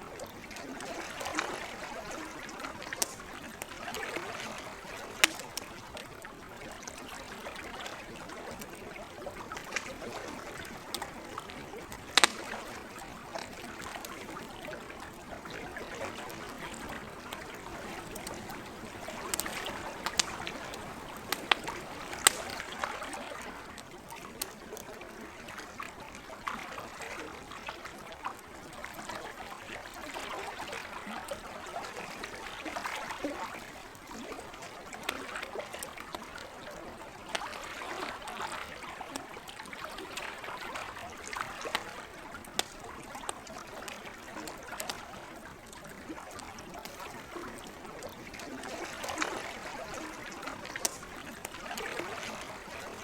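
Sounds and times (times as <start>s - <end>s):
lake water lapping: 0.0s - 53.0s
campfire crackling and popping: 0.1s - 25.8s, 32.2s - 53.0s.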